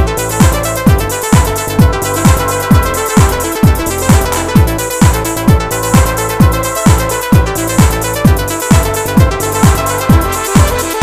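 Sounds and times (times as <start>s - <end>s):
kick drum: 0.0s - 11.0s
sustained synth chords: 0.0s - 11.0s.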